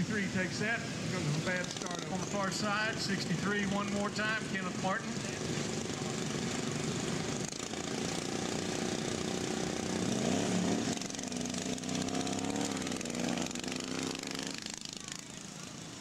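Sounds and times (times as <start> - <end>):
lawn mower engines racing: 0.0 - 16.0.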